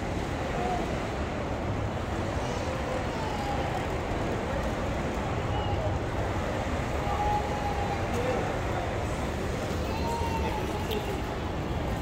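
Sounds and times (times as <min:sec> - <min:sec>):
faint distant voices: 0:00.0 - 0:12.0
low rumble of hall: 0:00.0 - 0:12.0.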